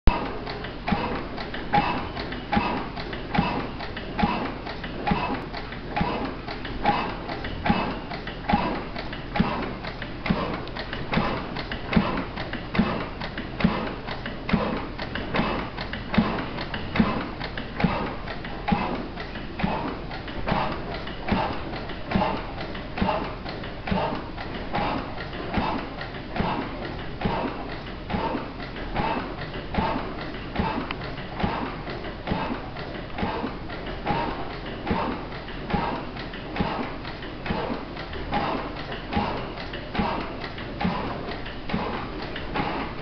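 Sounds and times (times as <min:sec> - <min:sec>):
light engine ticks: 0:00.1 - 0:43.0
stationary engine beating: 0:00.1 - 0:43.0.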